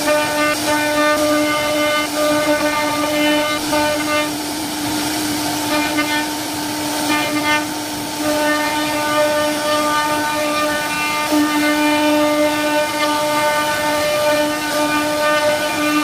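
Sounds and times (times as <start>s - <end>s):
hiss of wood cutting: 0.0s - 16.0s.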